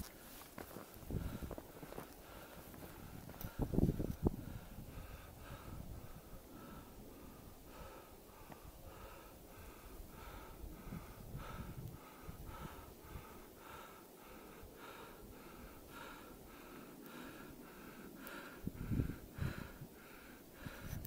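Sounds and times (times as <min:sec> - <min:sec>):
person breathing hard and fast: 0:00.0 - 0:21.0.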